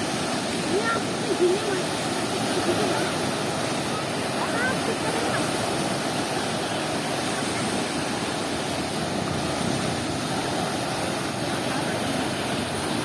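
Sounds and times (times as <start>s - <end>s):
river waves breaking: 0.0s - 13.0s.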